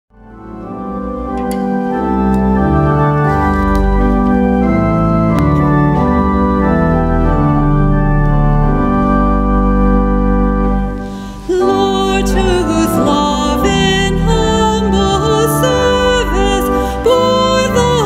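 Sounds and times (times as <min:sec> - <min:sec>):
organ playing sustained chords: 0:00.1 - 0:18.0.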